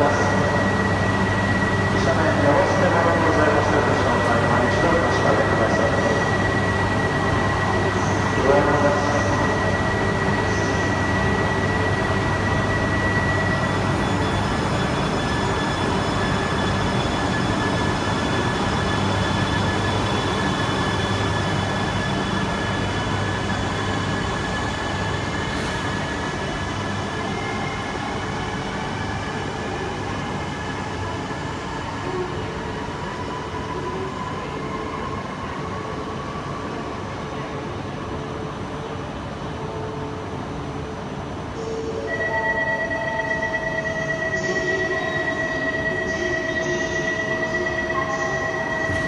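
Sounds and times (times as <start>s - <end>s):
rising high train whine: 0.0s - 49.0s
train rumbling past: 0.0s - 49.0s.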